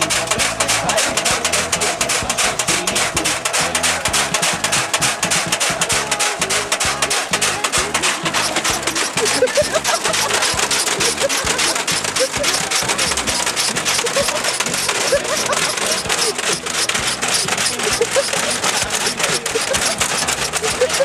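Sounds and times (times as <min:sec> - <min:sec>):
short squeaks: 0:00.0 - 0:21.0
washing machine rattling and banging: 0:00.0 - 0:21.0.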